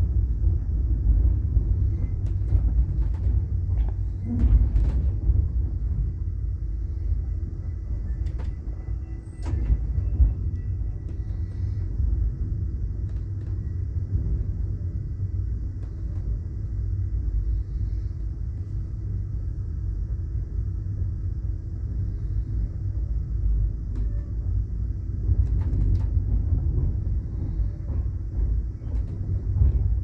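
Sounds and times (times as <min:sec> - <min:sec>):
train car rumble: 0:00.0 - 0:30.0.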